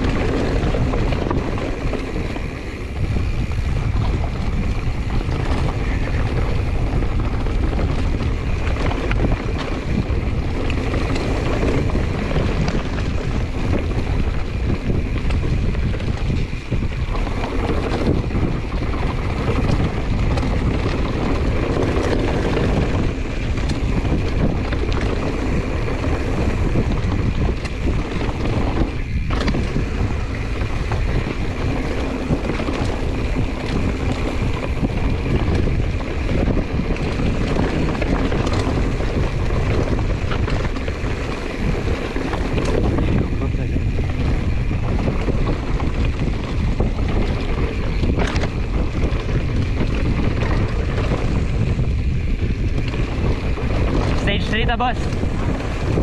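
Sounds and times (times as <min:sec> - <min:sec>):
bike clicks and rattles: 0:00.0 - 0:56.0
tyre noise on dirt: 0:00.0 - 0:56.0
wind rushing over microphone: 0:00.0 - 0:56.0.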